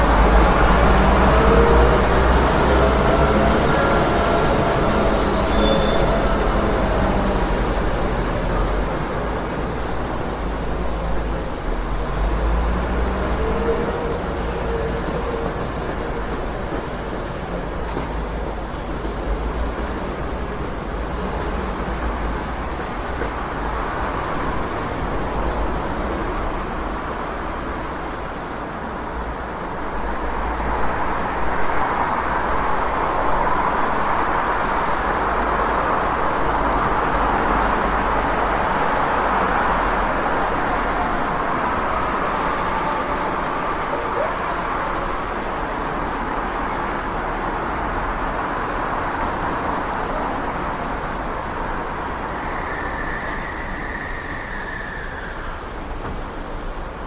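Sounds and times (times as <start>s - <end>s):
passing vehicles: 0.0s - 57.0s.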